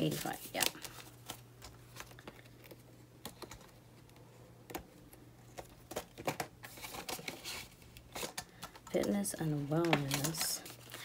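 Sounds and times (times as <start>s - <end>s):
banknotes rustling in plastic: 0.0s - 3.6s, 5.5s - 11.0s.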